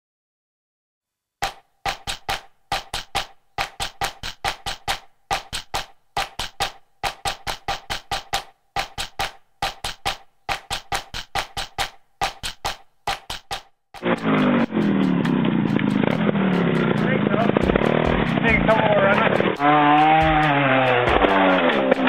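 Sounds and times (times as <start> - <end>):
wood block clicks: 1.4 - 22.0.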